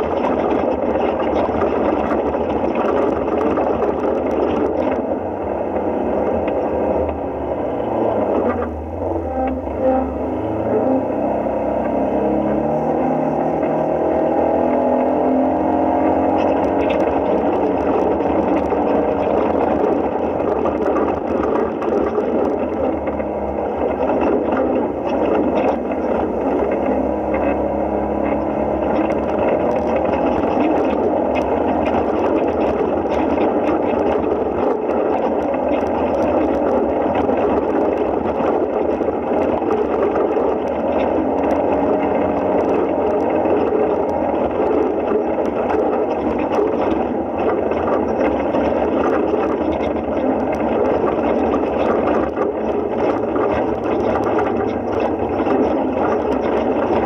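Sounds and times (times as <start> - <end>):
rattles and knocks: 0.0 - 7.3, 15.5 - 57.0
vehicle engine under load: 0.0 - 57.0.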